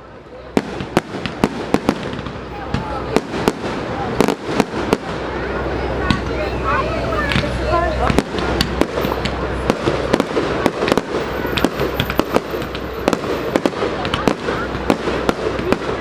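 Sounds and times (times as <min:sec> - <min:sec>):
fireworks cracking and popping: 0:00.3 - 0:16.0.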